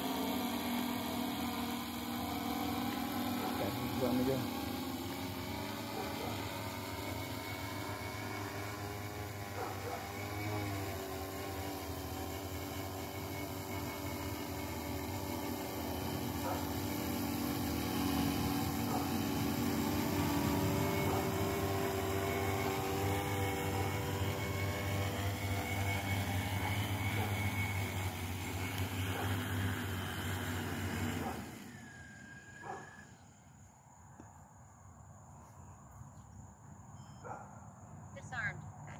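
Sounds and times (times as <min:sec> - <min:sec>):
drone propellers buzzing: 0:00.0 - 0:34.3.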